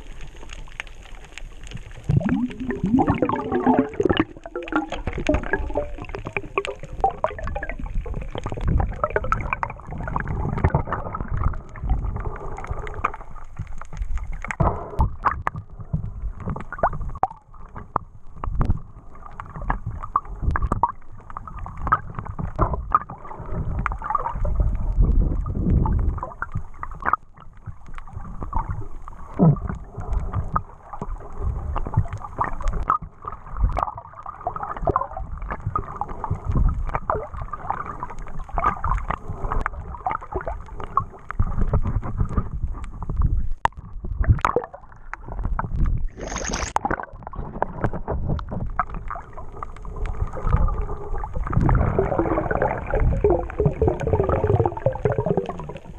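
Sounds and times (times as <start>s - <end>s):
muffled underwater water movement: 0.0s - 55.9s.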